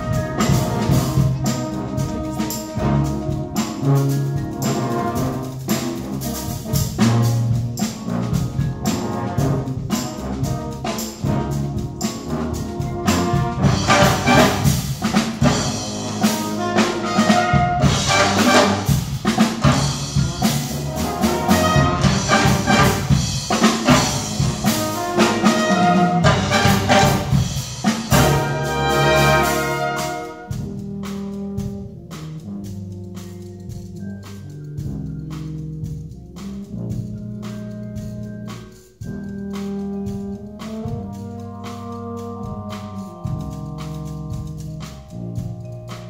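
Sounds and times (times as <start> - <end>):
brass chords: 0.0 - 34.0, 34.6 - 46.0
drum strokes: 0.0 - 46.0.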